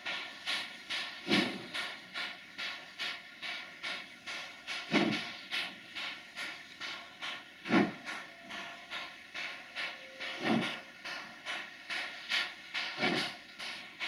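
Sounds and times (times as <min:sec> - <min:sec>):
steam hissing: 0:00.0 - 0:14.0
steam locomotive chuffing: 0:00.0 - 0:14.0.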